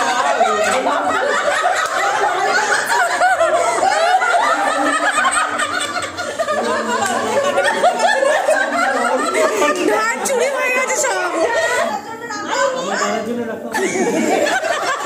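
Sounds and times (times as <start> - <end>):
group of people laughing: 0.0 - 13.0, 13.7 - 15.0.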